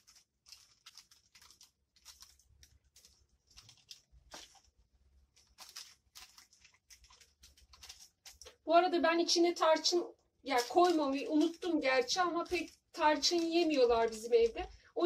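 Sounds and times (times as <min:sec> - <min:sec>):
baking paper rustling and crinkling: 0:00.0 - 0:15.0.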